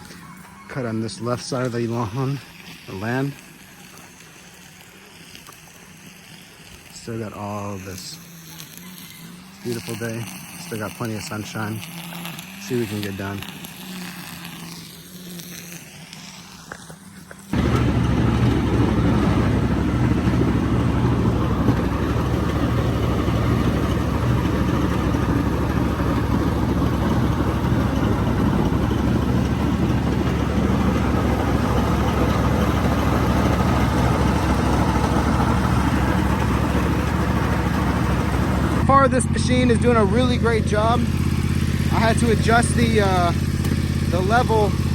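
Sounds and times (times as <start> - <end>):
lawn mower engine droning: 0.0 - 44.9.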